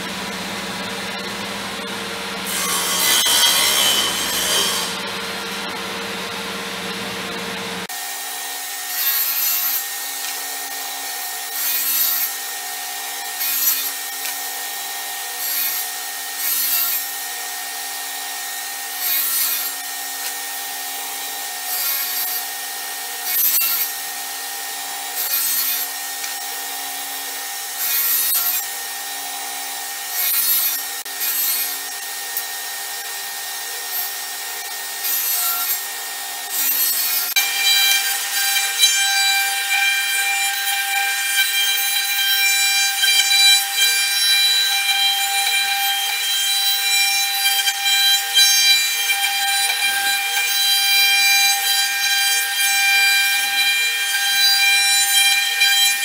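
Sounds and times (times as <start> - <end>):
table saw motor hum: 0.0 - 56.0
saw blade cutting plywood: 0.9 - 56.0.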